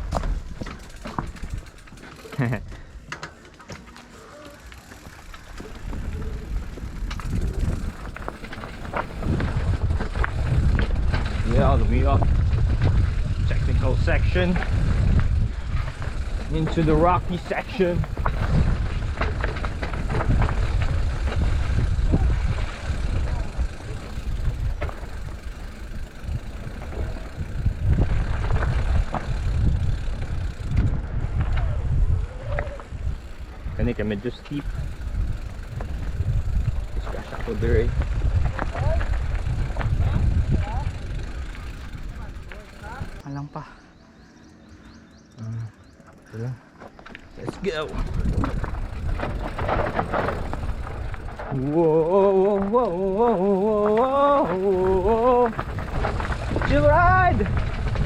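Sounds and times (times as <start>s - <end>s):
bike knocks and rattles: 0.0s - 43.2s, 46.1s - 58.0s
tyre and wind rumble: 0.0s - 43.2s, 46.0s - 58.0s.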